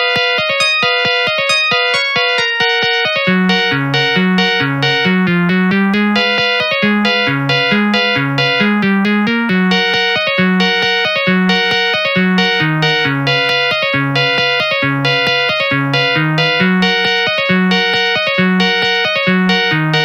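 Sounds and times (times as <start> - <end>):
polyphonic ringtone melody: 0.0 - 20.0.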